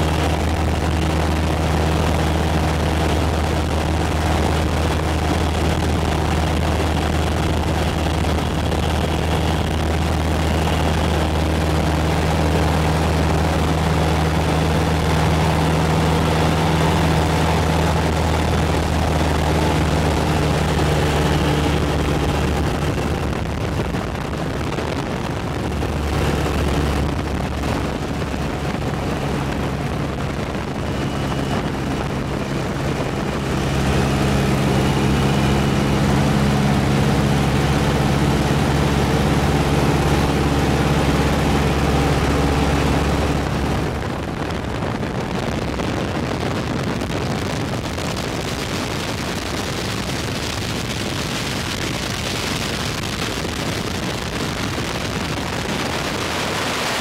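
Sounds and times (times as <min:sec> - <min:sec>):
aircraft engine droning: 0:00.0 - 0:57.0
wind noise: 0:00.0 - 0:57.0.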